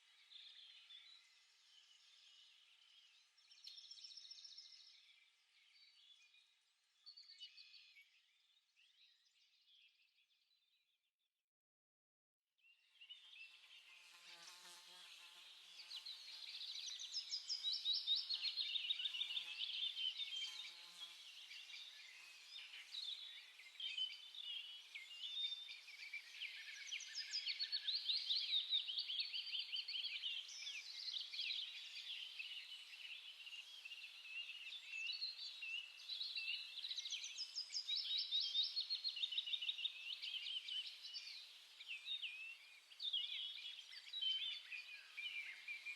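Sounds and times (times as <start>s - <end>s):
small birds chirping and trilling: 0.0s - 10.4s, 12.6s - 45.9s.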